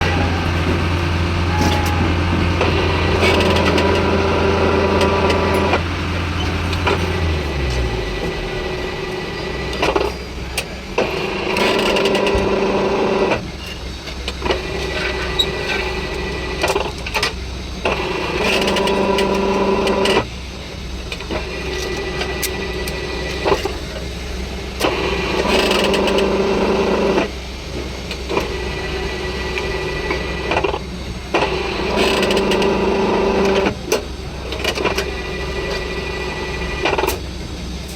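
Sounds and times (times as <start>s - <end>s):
construction machinery humming: 0.0s - 37.9s.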